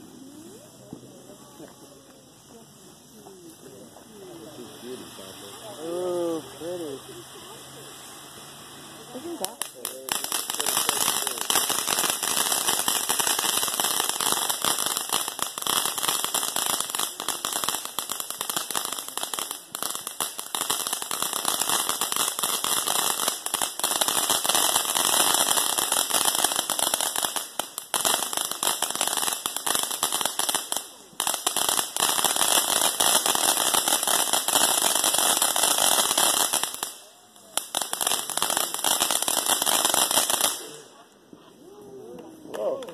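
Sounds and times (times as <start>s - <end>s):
firework fountain crackling: 0.0s - 42.9s.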